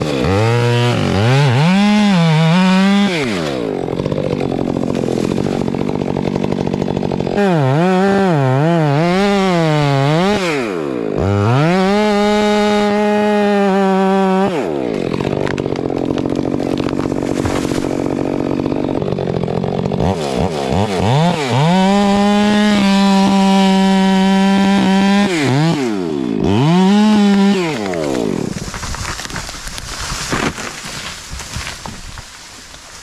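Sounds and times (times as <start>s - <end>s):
chainsaw revving and idling: 0.0s - 33.0s.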